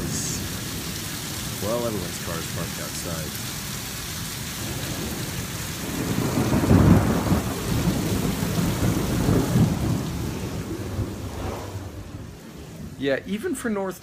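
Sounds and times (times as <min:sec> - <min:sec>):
thunder rumbling: 0:00.0 - 0:03.4, 0:04.6 - 0:13.4
steady rain: 0:00.0 - 0:14.0.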